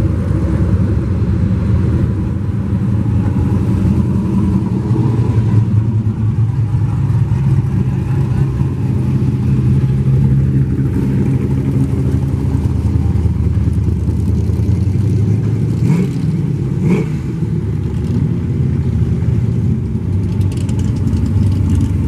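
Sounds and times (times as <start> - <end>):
muscle car engines running: 0.0 - 22.0.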